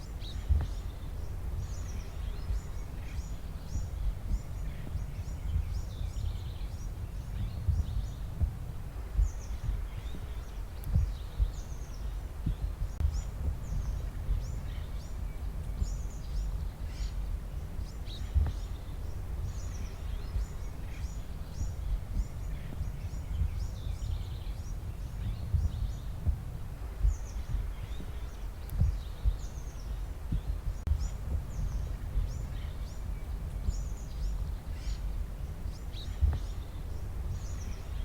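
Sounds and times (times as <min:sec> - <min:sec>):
small birds chirping: 0:00.0 - 0:38.0
steady low rumble: 0:00.0 - 0:38.0.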